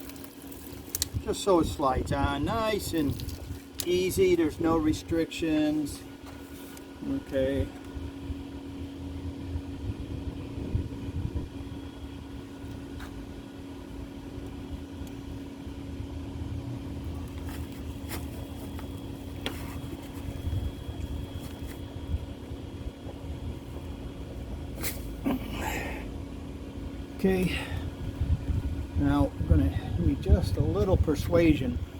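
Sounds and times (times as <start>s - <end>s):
machinery humming: 0.0s - 31.9s.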